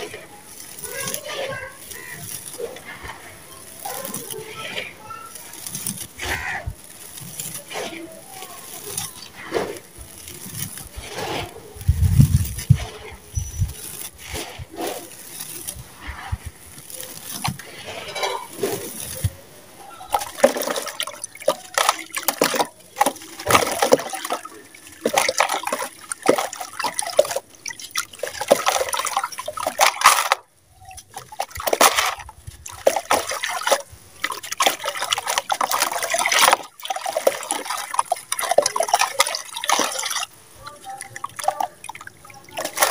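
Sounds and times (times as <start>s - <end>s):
grit falling into water: 0.0s - 42.9s.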